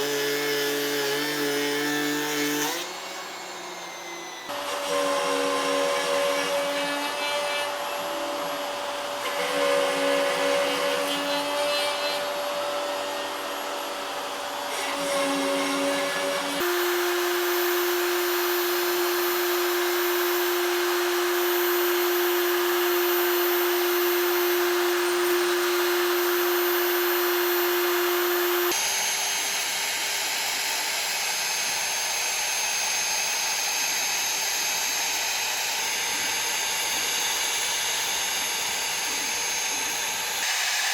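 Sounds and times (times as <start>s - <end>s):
cutter milling noise: 0.0s - 40.9s
router spindle whine: 0.0s - 40.9s.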